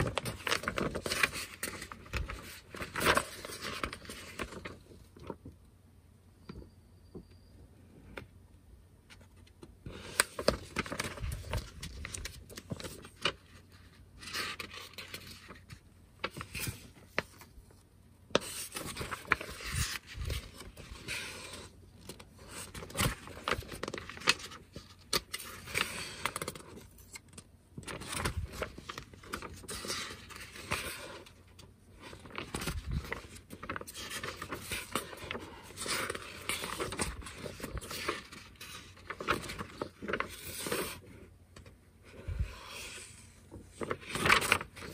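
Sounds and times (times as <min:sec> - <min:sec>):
paper pages rustling: 0:00.0 - 0:05.5, 0:09.0 - 0:44.9.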